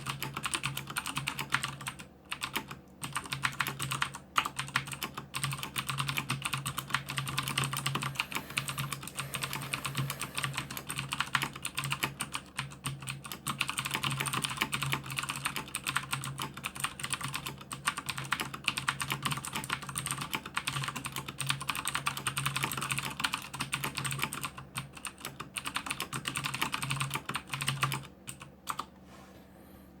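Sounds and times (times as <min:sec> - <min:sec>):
clicky mechanical keyboard typing: 0:00.0 - 0:28.9.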